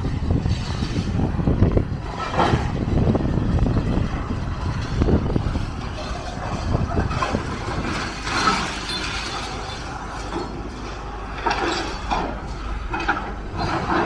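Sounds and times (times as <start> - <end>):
low engine rumble: 0.0 - 14.0
machinery breaking masonry: 0.0 - 14.0
falling rubble clattering: 0.3 - 14.0.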